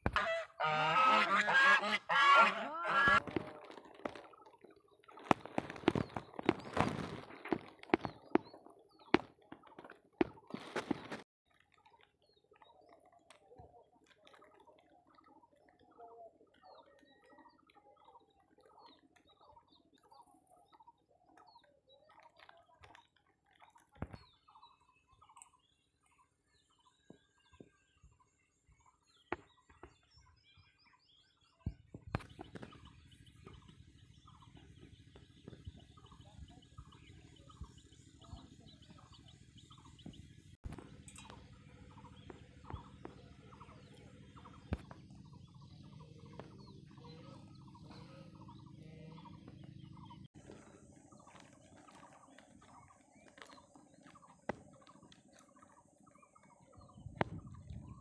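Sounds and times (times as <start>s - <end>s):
faint bird calls: 0.0s - 58.0s.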